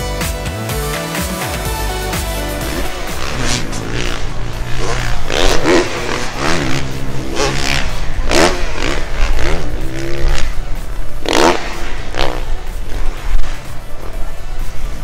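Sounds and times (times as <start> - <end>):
dirt bike engine revving: 2.3 - 15.0.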